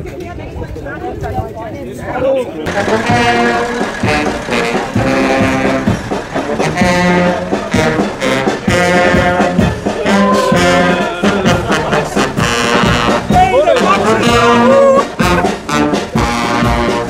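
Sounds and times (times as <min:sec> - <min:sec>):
brass band music: 0:02.6 - 0:17.0.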